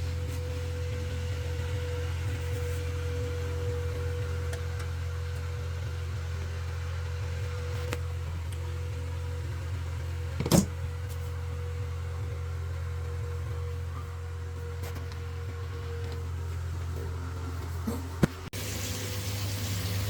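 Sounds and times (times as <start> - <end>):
boiler humming: 0.0 - 20.0.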